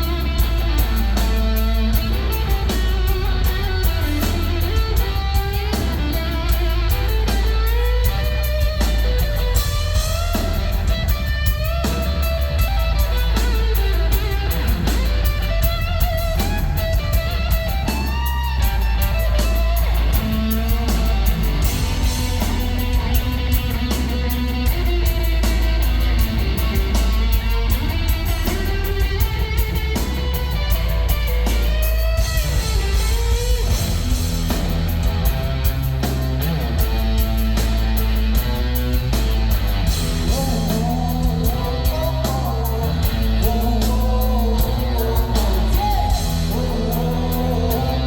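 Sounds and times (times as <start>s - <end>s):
distorted electric guitar: 0.0s - 48.0s
driving drums: 0.0s - 48.0s.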